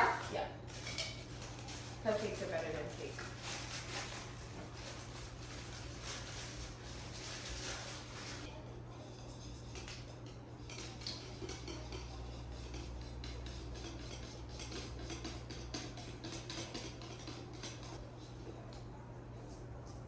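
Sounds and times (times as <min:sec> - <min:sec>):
utensils clinking against bowls: 0:00.0 - 0:18.0.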